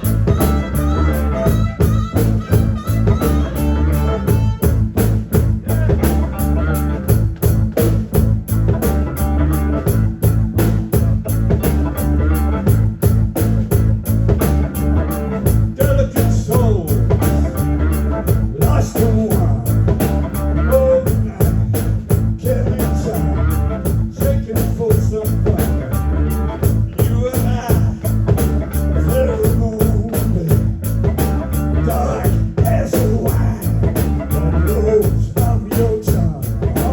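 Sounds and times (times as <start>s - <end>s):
rock band playing: 0.0s - 36.9s.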